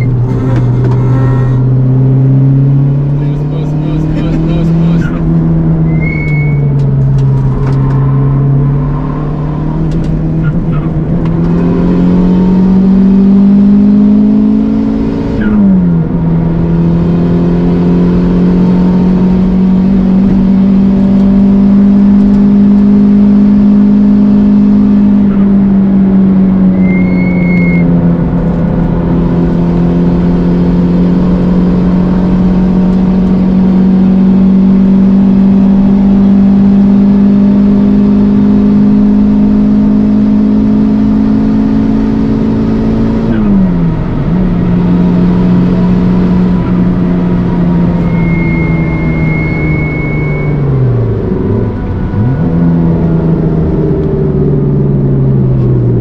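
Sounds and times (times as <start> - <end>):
car engine at full throttle: 0.0 - 56.0.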